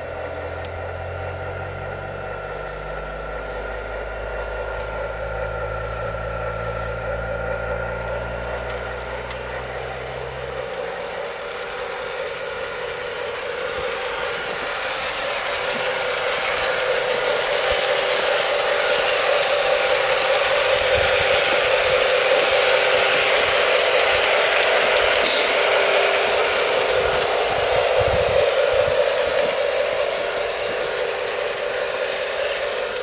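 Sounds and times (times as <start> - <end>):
model train running on track: 0.0 - 33.0.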